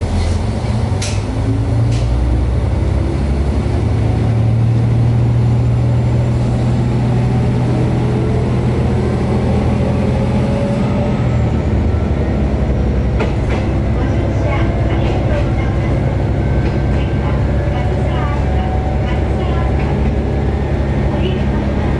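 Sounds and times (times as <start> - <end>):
diesel railcar engine with whine: 0.0 - 21.9.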